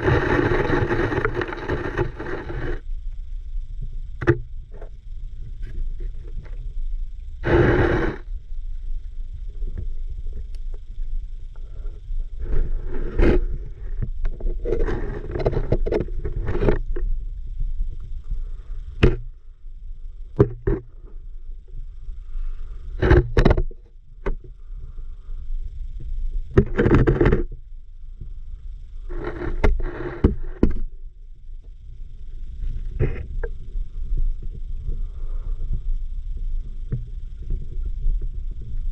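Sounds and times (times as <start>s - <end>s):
underwater low rumble: 0.0s - 38.9s.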